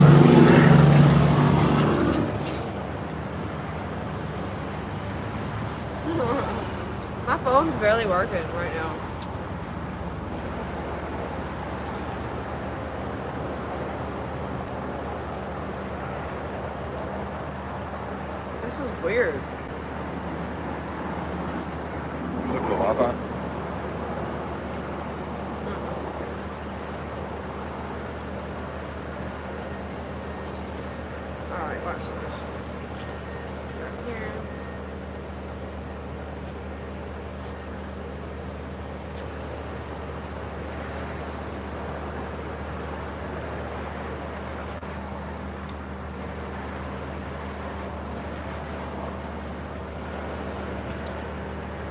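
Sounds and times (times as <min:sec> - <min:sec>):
vehicle engine humming: 0:00.0 - 0:51.9.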